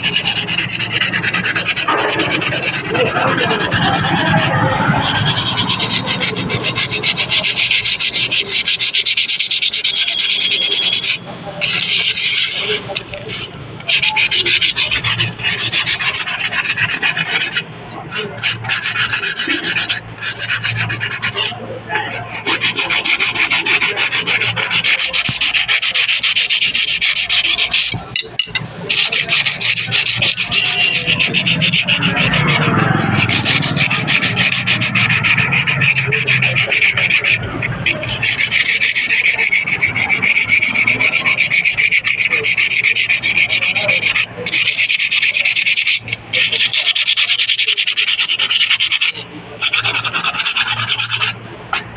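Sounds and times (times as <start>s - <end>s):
abrasive scouring a steel blade: 0.0s - 51.9s.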